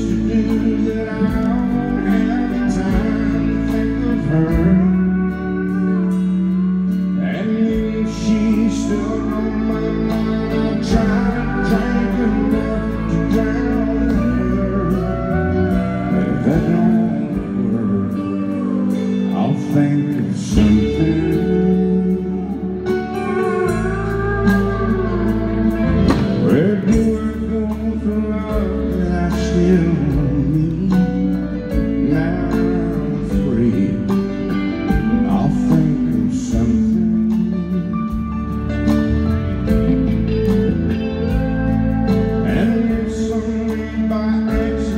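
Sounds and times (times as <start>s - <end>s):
country band with guitars: 0.0s - 44.9s
person singing: 0.0s - 44.9s
sliding bending guitar notes: 0.0s - 44.9s.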